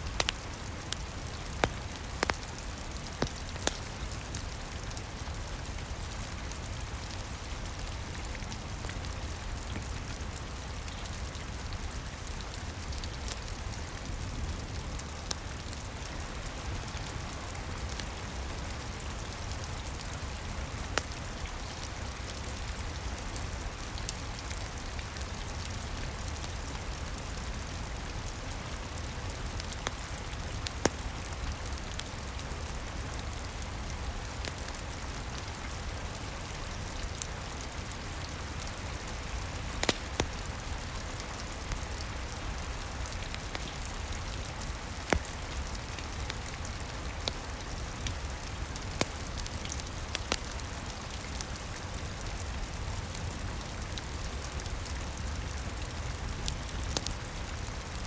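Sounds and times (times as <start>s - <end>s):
rain pattering on a roof: 0.0s - 58.0s
wood fire crackling: 0.0s - 58.0s.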